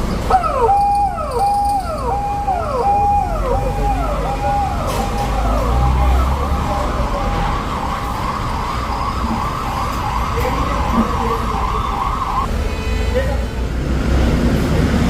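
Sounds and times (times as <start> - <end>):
low engine rumble: 0.0 - 12.4
vehicle siren: 0.0 - 12.5.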